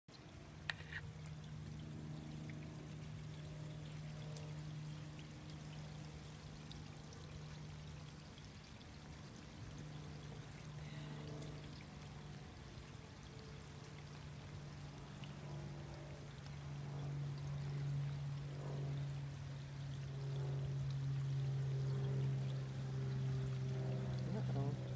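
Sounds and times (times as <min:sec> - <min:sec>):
steady low hum: 0:00.1 - 0:24.9
water drips: 0:00.1 - 0:24.9
water trickling down rain chain: 0:00.1 - 0:24.9.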